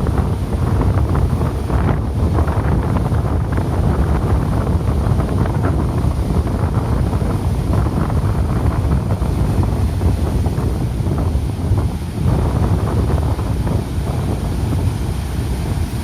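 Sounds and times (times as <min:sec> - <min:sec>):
sea surf washing: 0:00.0 - 0:16.0
strong wind buffeting microphone: 0:00.0 - 0:16.0.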